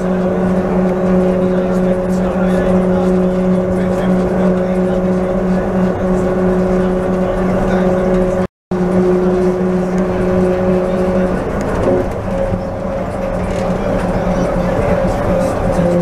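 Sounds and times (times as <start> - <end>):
train rolling noise: 0.0 - 16.0.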